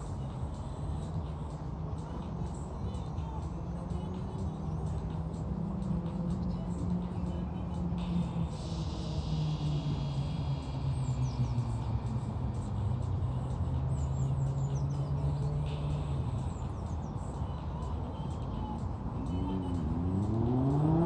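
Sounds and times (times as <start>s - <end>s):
birds chirping: 0.0s - 21.0s
low engine hum: 0.0s - 21.0s.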